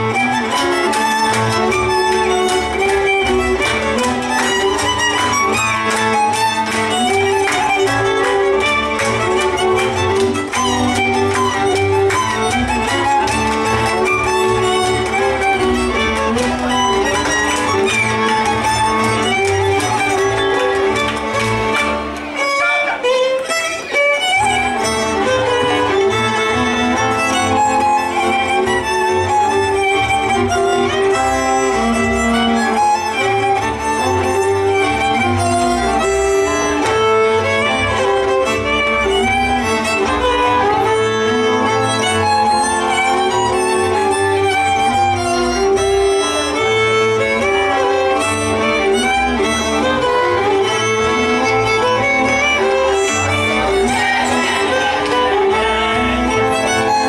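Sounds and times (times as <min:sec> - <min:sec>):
pulsing bass accompaniment: 0:00.0 - 0:22.4, 0:24.3 - 0:57.0
fiddle playing dance tune: 0:00.0 - 0:57.0.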